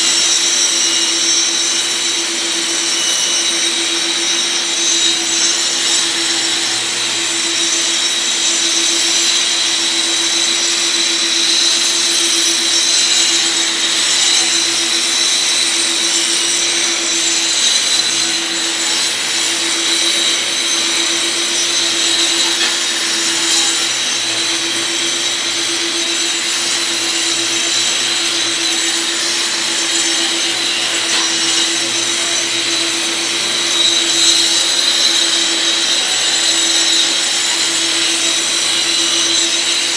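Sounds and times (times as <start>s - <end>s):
angle grinder grinding concrete: 0.0s - 39.9s.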